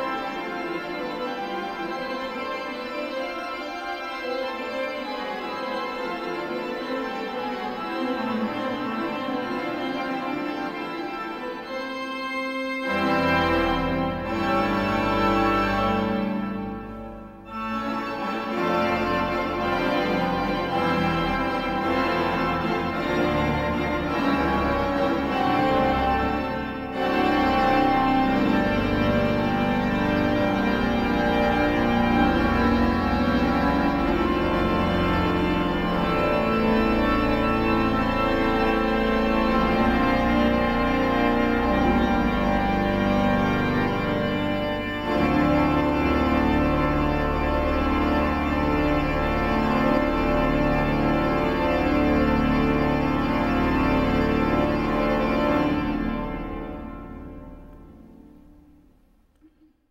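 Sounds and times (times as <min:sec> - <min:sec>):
pipe organ chords: 0:00.0 - 0:59.8.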